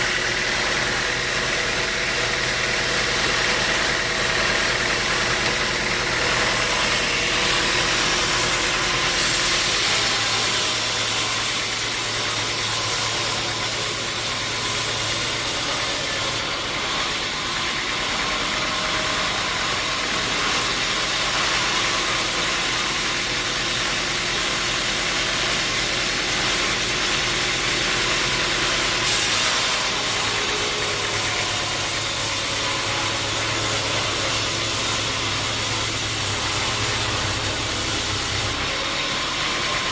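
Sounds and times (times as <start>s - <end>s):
sawmill machinery hiss: 0.0s - 39.9s
sawmill motor hum: 0.0s - 39.9s.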